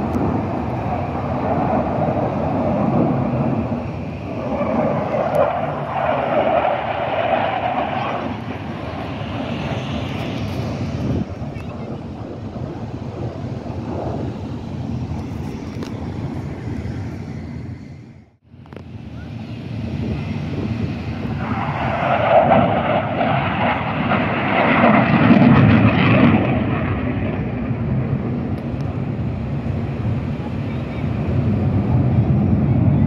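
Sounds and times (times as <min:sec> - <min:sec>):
airplane engine passing: 0:00.0 - 0:33.0.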